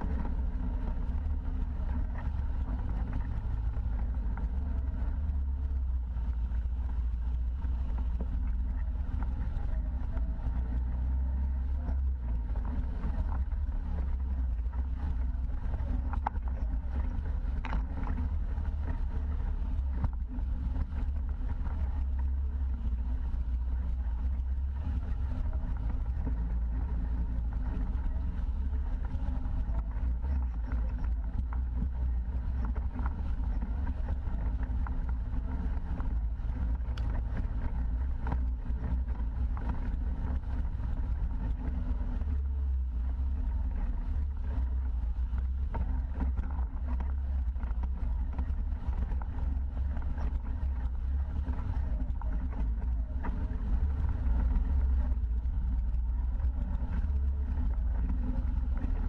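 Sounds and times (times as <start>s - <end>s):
utility vehicle engine droning: 0.0s - 59.0s.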